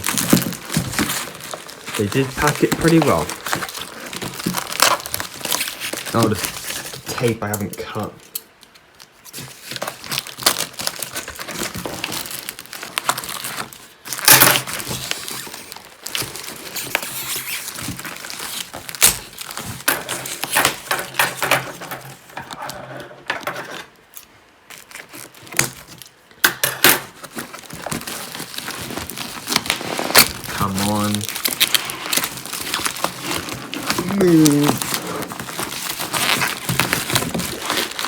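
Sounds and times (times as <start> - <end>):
packaging crinkling and rustling: 0.0 - 38.0.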